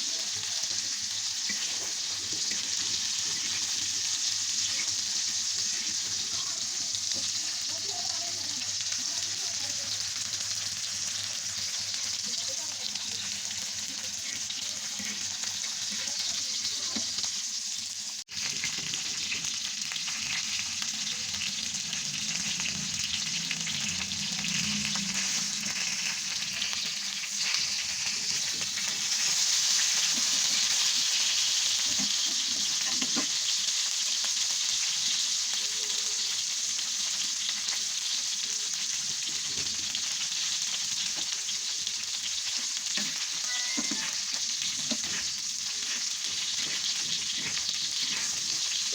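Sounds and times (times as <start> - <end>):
fish sizzling in a pan: 0.0 - 48.9.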